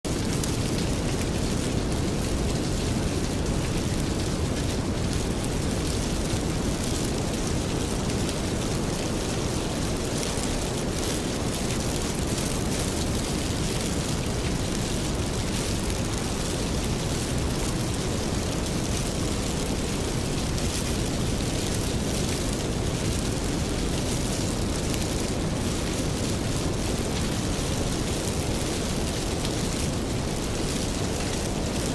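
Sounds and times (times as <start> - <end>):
fire burning in a fireplace: 0.0 - 31.9
steady rain: 0.0 - 31.9.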